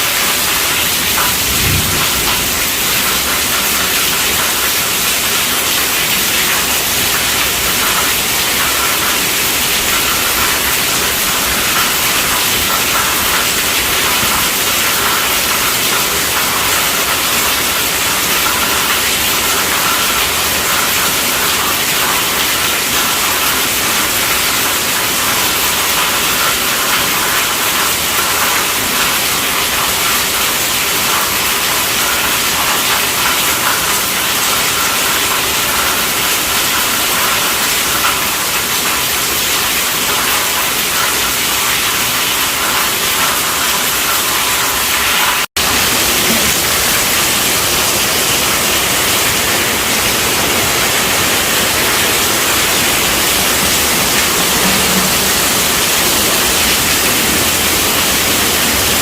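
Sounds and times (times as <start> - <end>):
heavy rain on a tent roof: 0.0 - 59.0.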